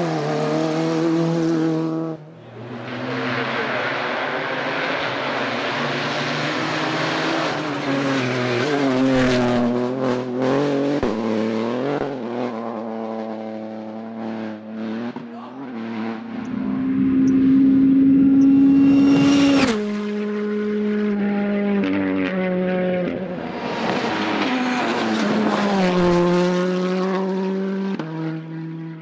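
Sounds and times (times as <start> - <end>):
rally car engine revving: 0.0 - 29.0
rally car engine running steadily: 4.7 - 29.0.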